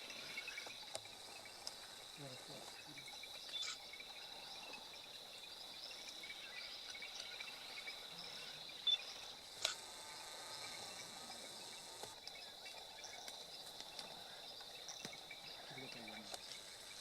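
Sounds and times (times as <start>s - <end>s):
insects trilling: 0.0s - 17.0s
loud insect chirp: 0.0s - 17.0s.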